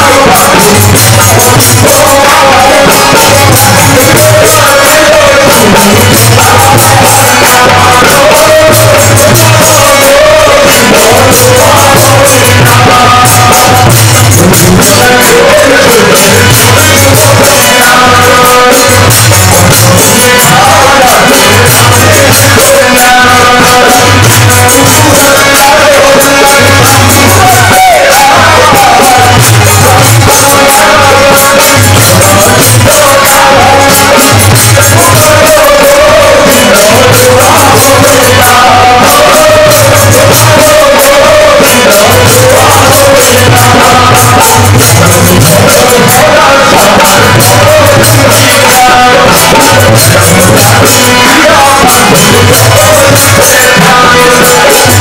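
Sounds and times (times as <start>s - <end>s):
harmonium chords: 0.0s - 55.0s
men singing together: 0.0s - 55.0s
percussion clicking in rhythm: 0.0s - 55.0s
steady drum beat: 0.0s - 55.0s.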